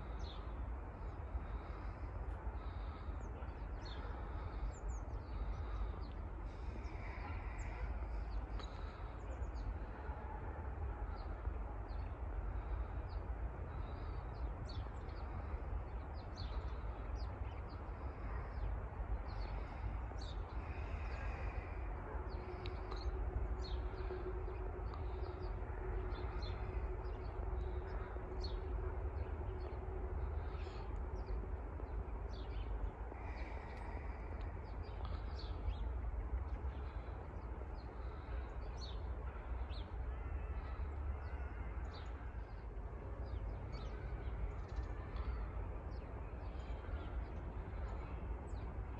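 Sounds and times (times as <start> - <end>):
steady low rumble: 0.0 - 48.9.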